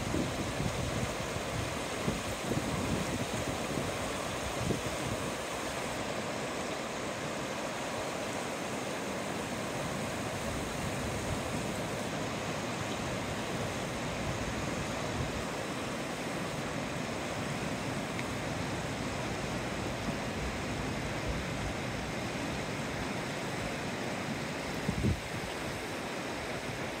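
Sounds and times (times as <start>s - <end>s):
river rushing over stones: 0.0s - 27.0s.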